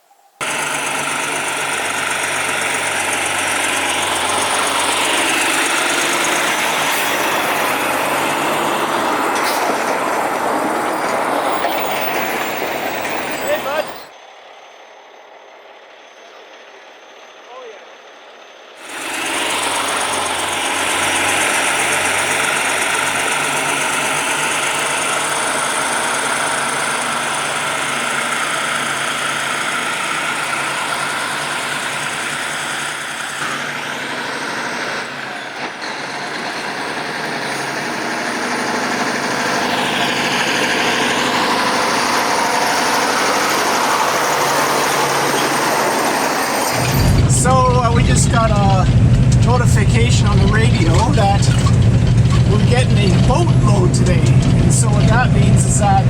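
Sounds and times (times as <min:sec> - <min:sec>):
heavy road noise: 0:00.4 - 0:56.0
truck diesel engine running: 0:00.4 - 0:56.0.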